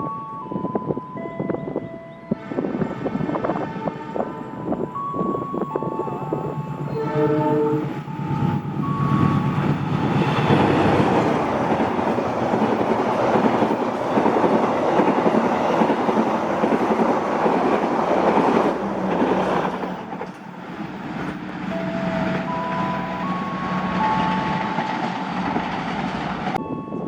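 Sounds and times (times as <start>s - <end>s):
train passing at speed: 0.4s - 27.0s.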